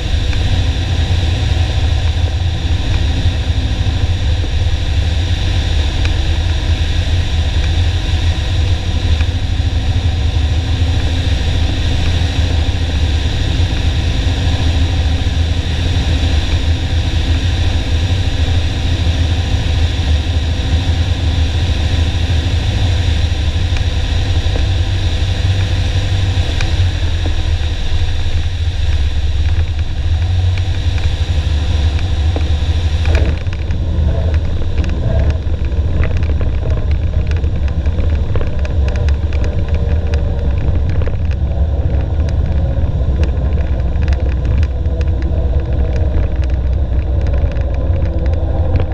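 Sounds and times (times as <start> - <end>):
airplane engine and propeller droning: 0.0 - 48.9.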